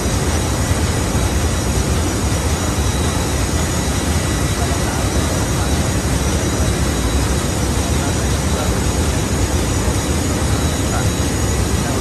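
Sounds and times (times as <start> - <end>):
engine room machinery drone: 0.0 - 12.0
faint whines: 0.0 - 12.0.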